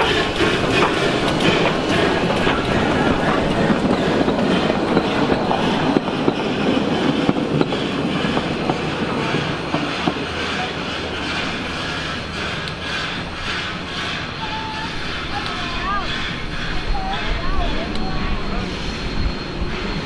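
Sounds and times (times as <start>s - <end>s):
wheels clicking over rails: 0.0s - 18.4s
steam train rolling past: 0.0s - 20.0s.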